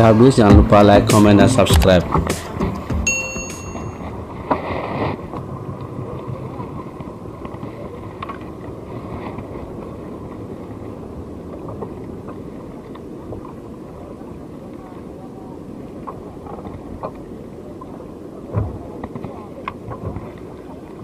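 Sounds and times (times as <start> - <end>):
wind and water noise: 0.0 - 21.0.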